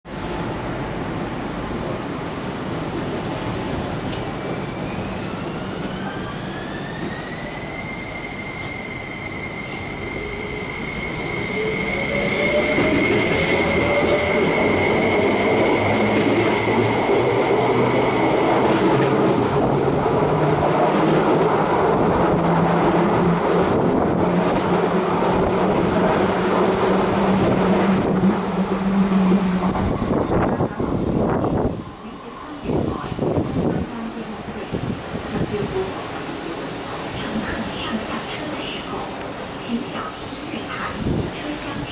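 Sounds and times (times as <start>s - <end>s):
train wheels rumbling on rails: 0.1s - 41.9s.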